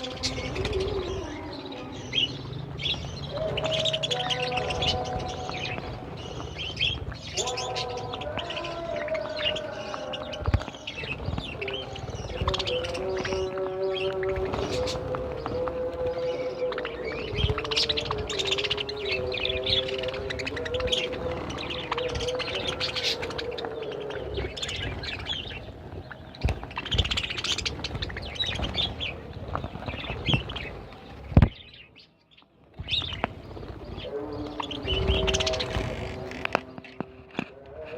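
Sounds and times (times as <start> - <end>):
budgerigars chirping and chattering: 0.0 - 37.9.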